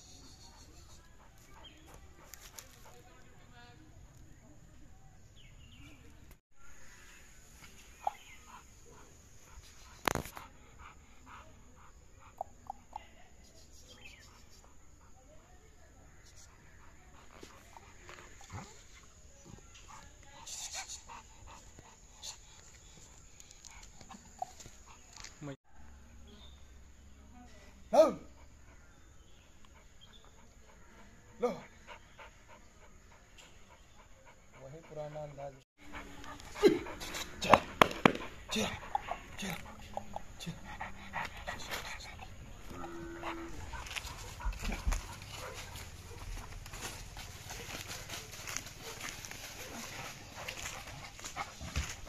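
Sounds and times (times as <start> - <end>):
dog panting: 0.4 - 3.5, 7.9 - 25.5, 28.2 - 52.0.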